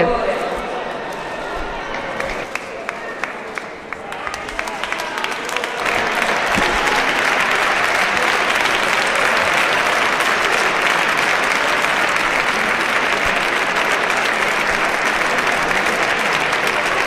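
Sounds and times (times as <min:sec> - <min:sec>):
crowd applauding: 0:01.8 - 0:17.0.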